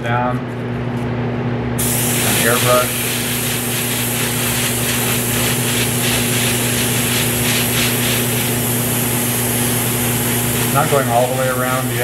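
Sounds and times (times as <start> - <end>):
steady low hum: 0.0 - 12.0
airbrush spraying hiss: 1.8 - 12.0.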